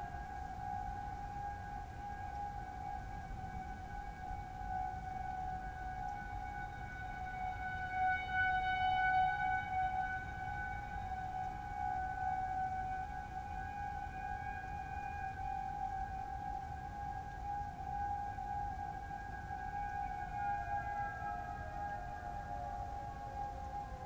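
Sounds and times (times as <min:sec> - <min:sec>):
distant sirens wailing: 0:00.0 - 0:24.0.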